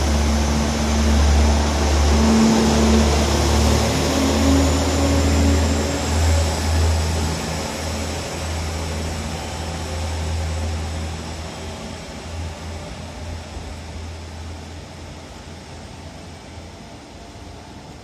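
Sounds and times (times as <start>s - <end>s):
diesel train engines rumbling: 0.0s - 18.0s.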